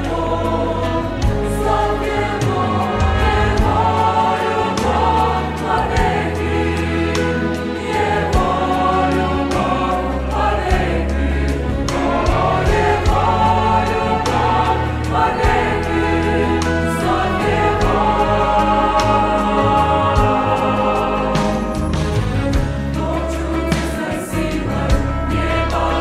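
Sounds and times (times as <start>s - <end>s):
mixed choir singing: 0.0s - 26.0s.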